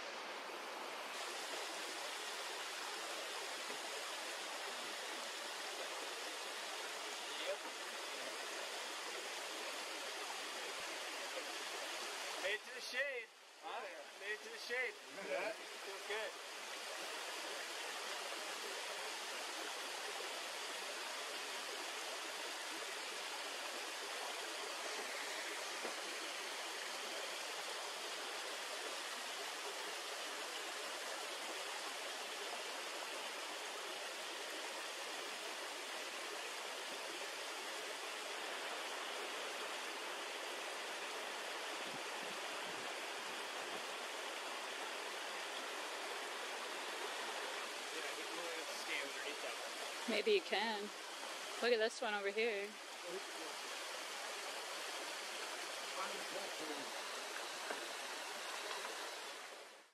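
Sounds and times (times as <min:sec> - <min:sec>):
waterfalls rushing: 0:00.0 - 0:59.9.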